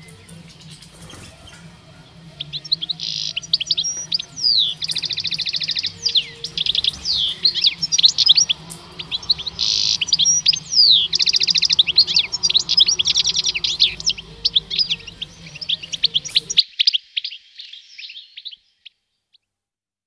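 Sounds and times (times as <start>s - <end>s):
goldfinches twittering song: 0.0s - 19.0s.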